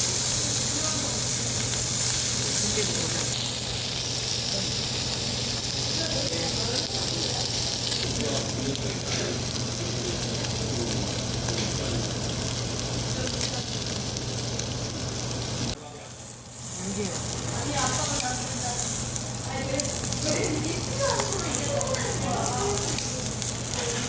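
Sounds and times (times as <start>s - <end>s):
faint voices: 0.0s - 24.0s
meat sizzling on a grill: 0.0s - 24.0s.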